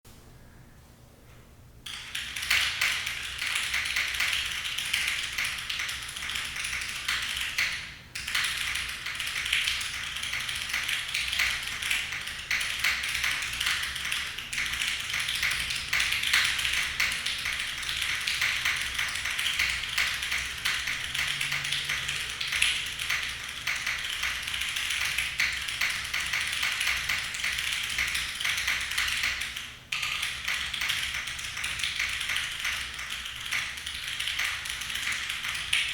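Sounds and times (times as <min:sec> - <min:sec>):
mechanical keyboard typing: 0:01.9 - 0:35.9.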